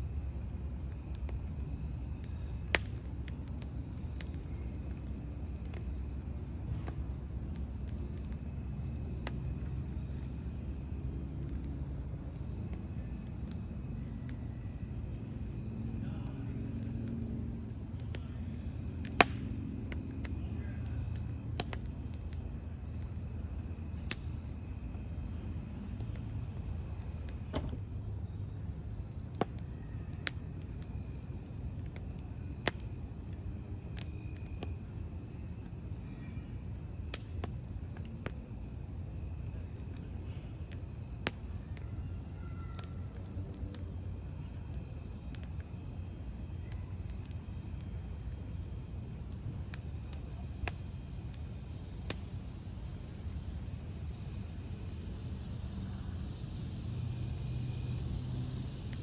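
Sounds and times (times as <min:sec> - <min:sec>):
campfire crackling and popping: 0:00.0 - 0:41.8, 0:42.6 - 0:59.0
crickets trilling: 0:00.0 - 0:59.0.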